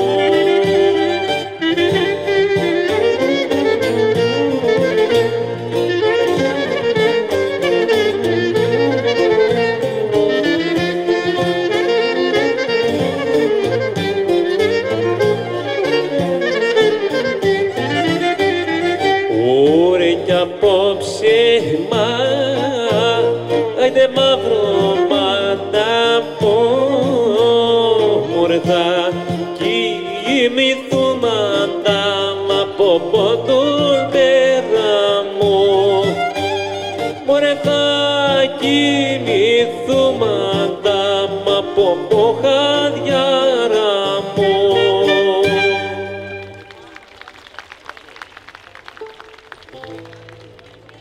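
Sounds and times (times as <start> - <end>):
folk dance music over loudspeakers: 0.0 - 51.0.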